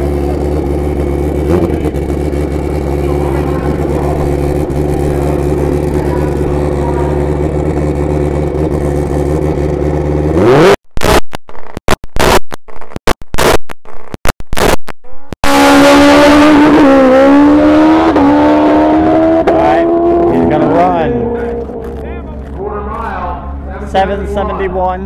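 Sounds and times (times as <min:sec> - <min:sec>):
drag bike engine revving: 0:00.0 - 0:11.2, 0:15.4 - 0:25.0.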